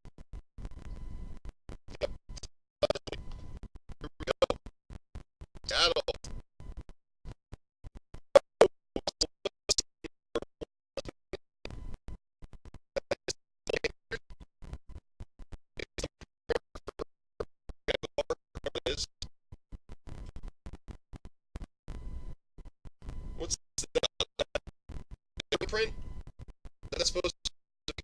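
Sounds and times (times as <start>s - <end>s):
crackling recording clicks: 0.0s - 28.0s.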